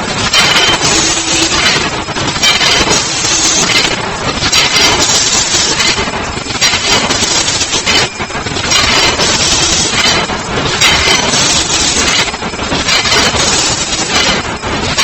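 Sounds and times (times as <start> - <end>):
machine hissing: 0.0 - 15.0
machine mechanical clatter: 0.0 - 15.0.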